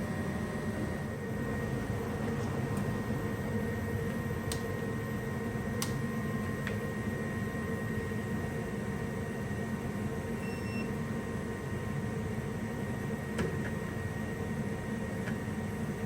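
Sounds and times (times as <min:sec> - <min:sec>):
faint hum: 0:00.0 - 0:16.0
furnace burner and blower rushing: 0:00.0 - 0:16.0.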